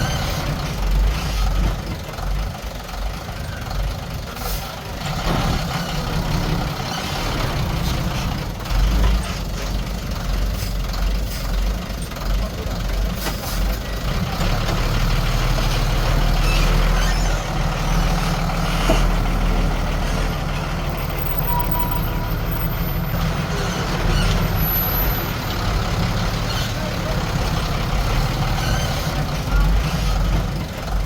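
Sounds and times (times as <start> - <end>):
heavy machinery diesel engine droning: 0.0 - 31.0.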